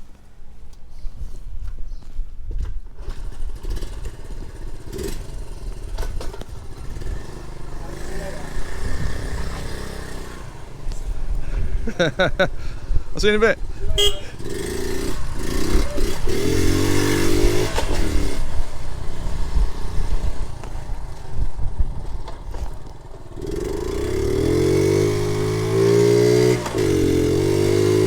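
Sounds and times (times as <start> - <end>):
small motorcycle engine revving: 3.0 - 28.0.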